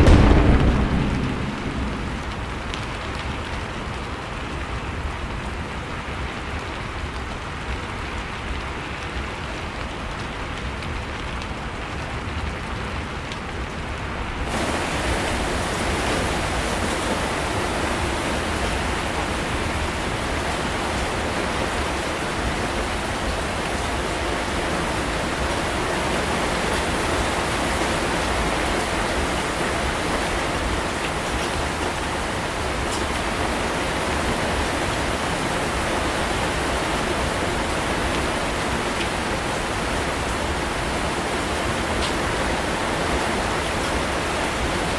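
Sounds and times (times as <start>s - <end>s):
heavy rain rushing: 0.0s - 44.9s
rain falling: 0.0s - 44.9s.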